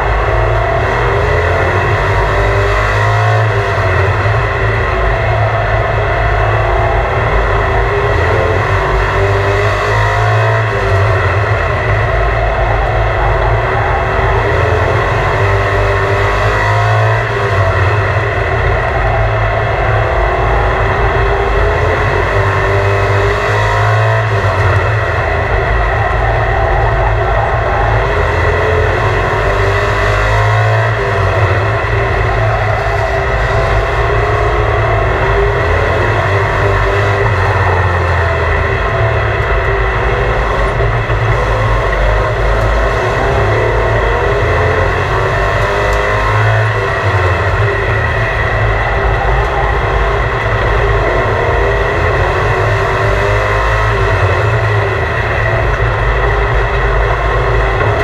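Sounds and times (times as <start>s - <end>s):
racing truck engines: 0.0s - 58.0s.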